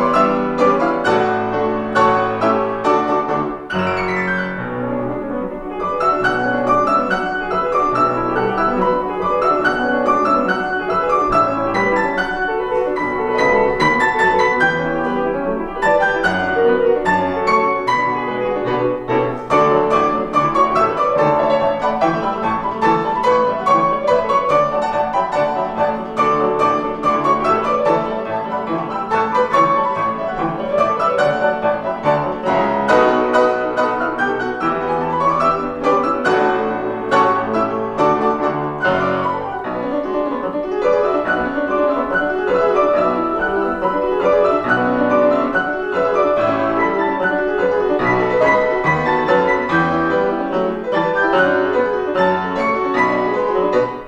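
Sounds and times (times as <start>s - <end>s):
grand piano four hands: 0.0s - 54.0s.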